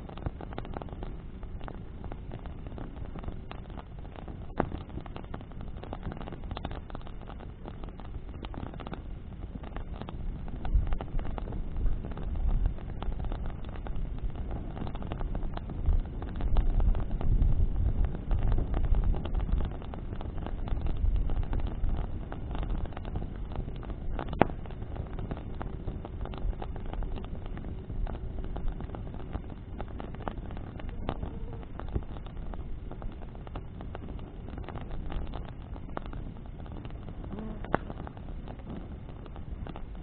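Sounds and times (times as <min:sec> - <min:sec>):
burning wood crackling and popping: 0:00.0 - 0:40.0
wind rumble on microphone: 0:00.0 - 0:40.0.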